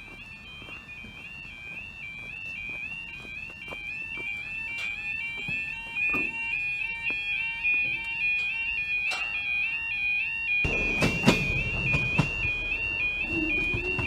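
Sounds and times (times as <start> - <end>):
two-tone crossing alarm: 0.0 - 14.0.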